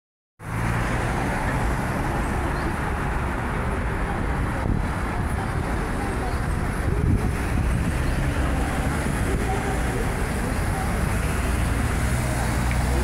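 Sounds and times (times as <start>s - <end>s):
road traffic rumbling: 0.4s - 13.0s.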